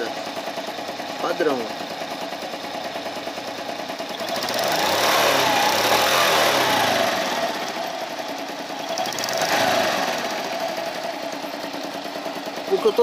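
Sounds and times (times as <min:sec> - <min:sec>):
scooter engine idling and revving: 0:00.0 - 0:13.0.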